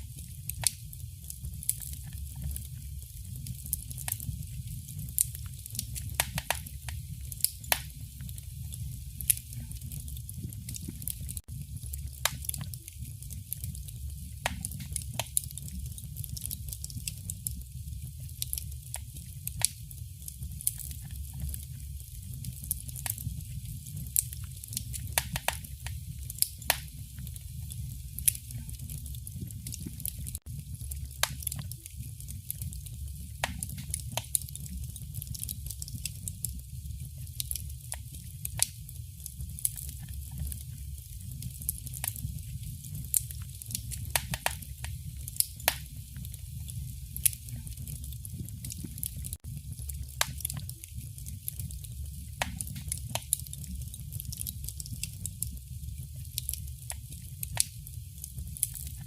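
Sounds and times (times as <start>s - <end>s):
low rumble and hiss of fire: 0.0s - 59.0s
wood fire crackling and popping: 0.0s - 59.0s.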